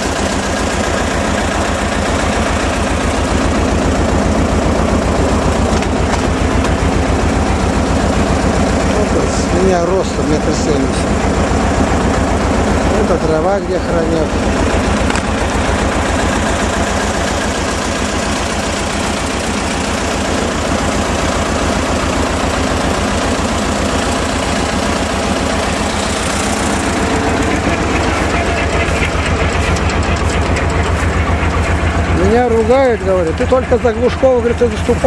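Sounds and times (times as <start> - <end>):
engine idling with low throb: 0.0 - 35.0.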